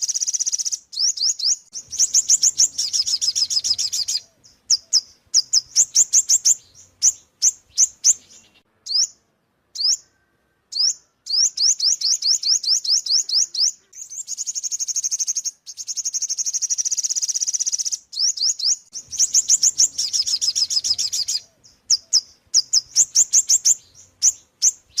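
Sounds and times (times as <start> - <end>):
bird fast trill: 0.0 - 9.2, 9.8 - 25.0.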